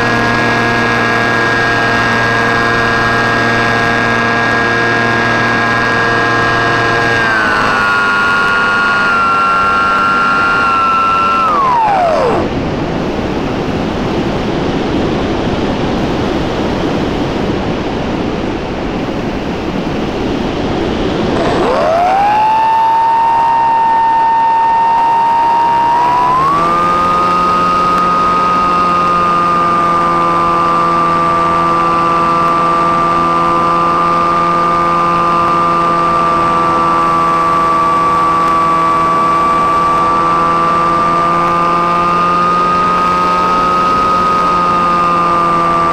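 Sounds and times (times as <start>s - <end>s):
model plane motor whine: 0.0s - 17.6s, 20.1s - 45.9s.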